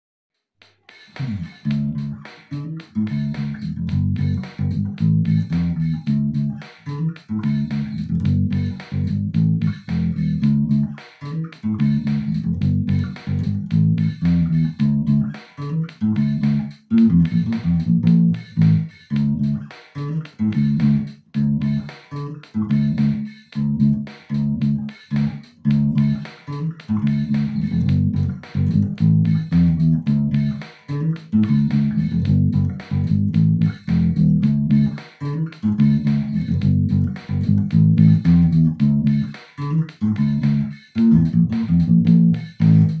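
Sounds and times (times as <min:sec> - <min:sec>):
electric bass guitar reggae line: 0:01.2 - 0:43.0.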